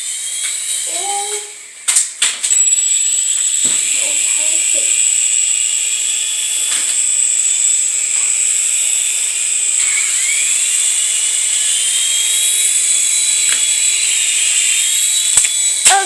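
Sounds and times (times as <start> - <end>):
toy helicopter motor whining: 0.0 - 16.0.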